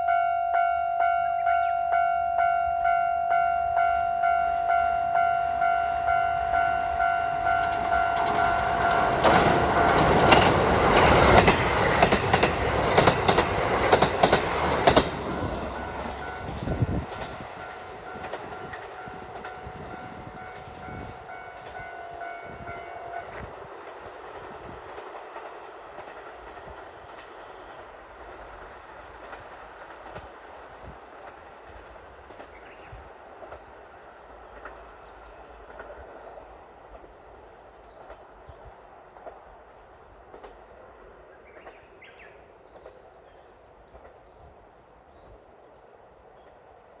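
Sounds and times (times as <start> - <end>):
diesel train running on track: 0.0 - 46.6.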